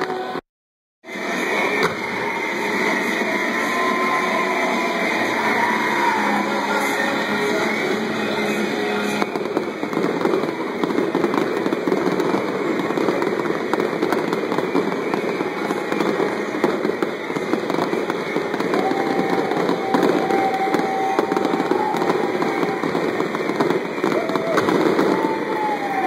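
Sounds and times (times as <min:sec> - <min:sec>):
fireworks popping and crackling: 0:01.1 - 0:26.0.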